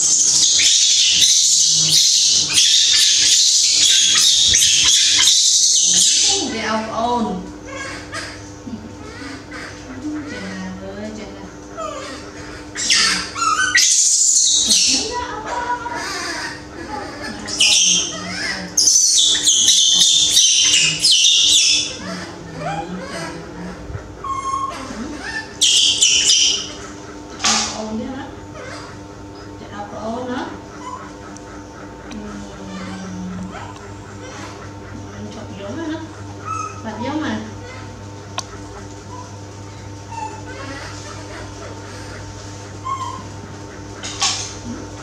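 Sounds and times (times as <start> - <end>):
baby monkey screaming: 0.0 - 10.8, 11.8 - 35.1, 35.7 - 44.6.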